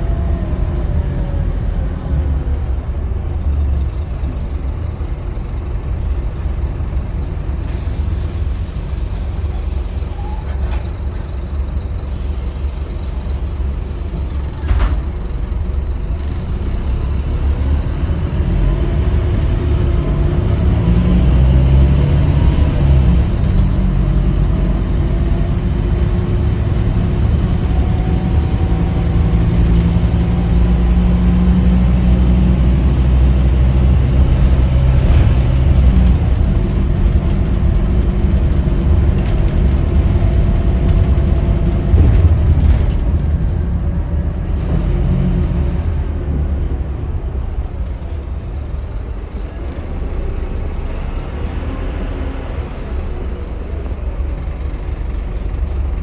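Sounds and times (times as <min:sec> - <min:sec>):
bus diesel engine pulling: 0:00.0 - 0:56.0.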